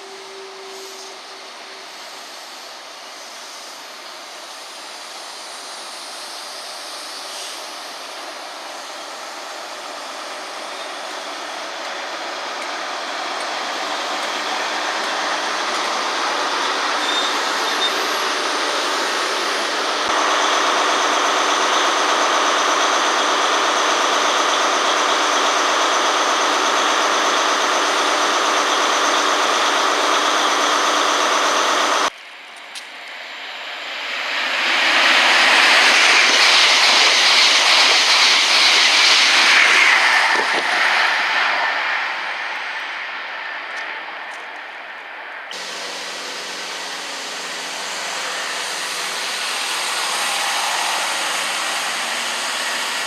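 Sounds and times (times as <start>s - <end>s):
diesel train passing: 0.0s - 53.0s
rail noise: 0.0s - 53.0s
train whining tones: 0.0s - 53.0s.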